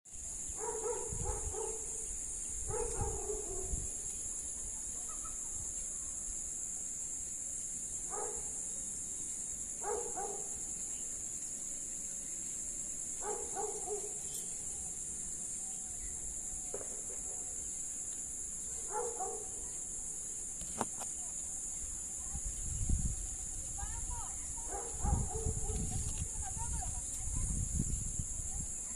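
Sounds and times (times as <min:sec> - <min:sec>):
high-pitched insect chorus: 0:00.1 - 0:28.9.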